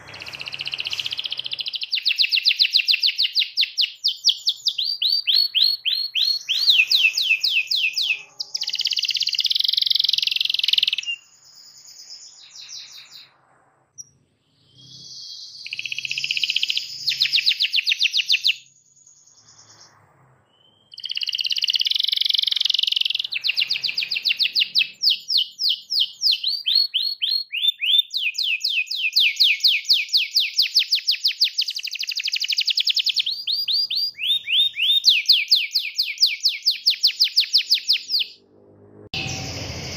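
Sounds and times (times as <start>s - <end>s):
canary singing trills: 0.0s - 13.3s, 14.0s - 38.4s.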